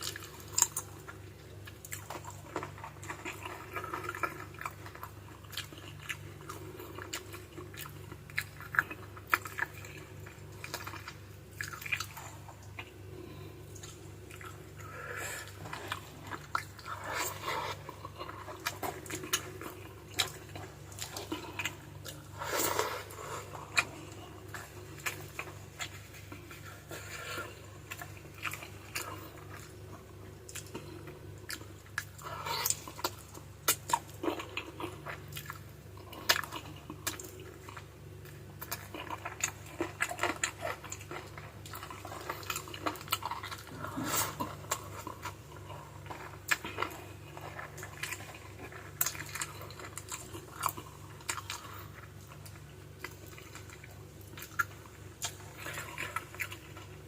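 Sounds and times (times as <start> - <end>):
person chewing with wet smacks: 0.0 - 57.0
steady low hum: 0.0 - 57.0.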